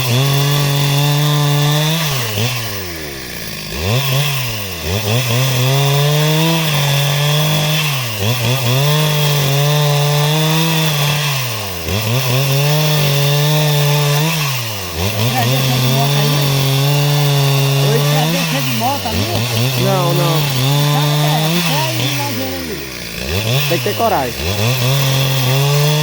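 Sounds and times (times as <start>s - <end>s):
chainsaw cutting timber: 0.0s - 26.0s.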